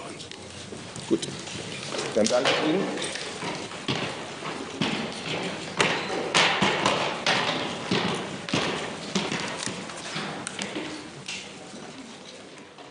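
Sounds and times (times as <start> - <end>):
knocks taps and clatter: 0.2 - 12.9.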